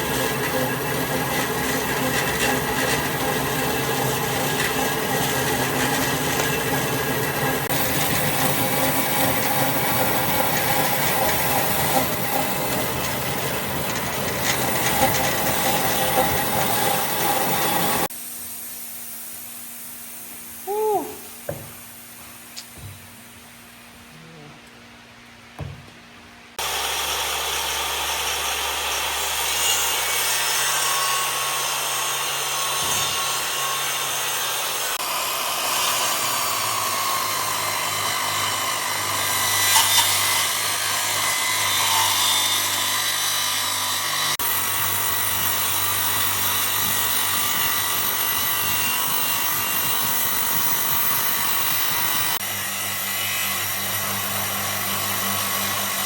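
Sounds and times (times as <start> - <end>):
power tool rasping wood: 0.0 - 18.1, 26.6 - 56.0.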